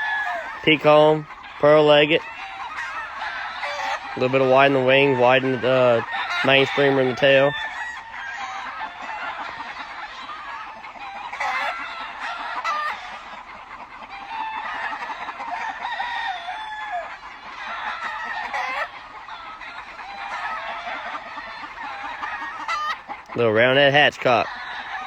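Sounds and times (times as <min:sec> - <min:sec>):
roosters crowing: 0:00.0 - 0:25.0.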